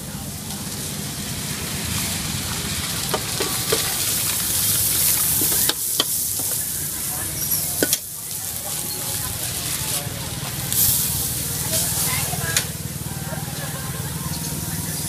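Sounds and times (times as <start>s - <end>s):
steady hiss: 0.0s - 13.3s.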